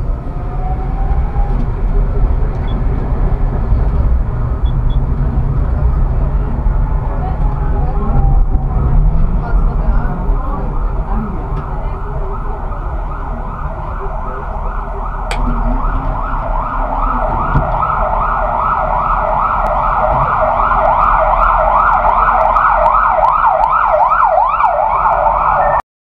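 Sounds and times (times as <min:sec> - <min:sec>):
emergency vehicle siren wailing: 0:00.0 - 0:25.8.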